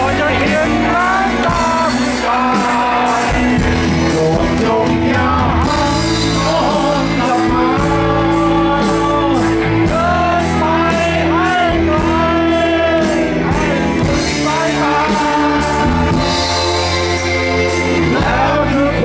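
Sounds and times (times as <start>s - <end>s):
live rock band: 0.0s - 19.0s
man singing: 0.0s - 19.0s.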